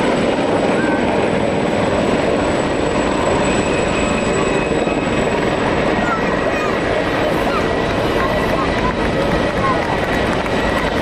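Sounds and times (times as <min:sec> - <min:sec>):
helicopters flying low: 0:00.0 - 0:11.0
rotor and turbine engine noise: 0:00.0 - 0:11.0.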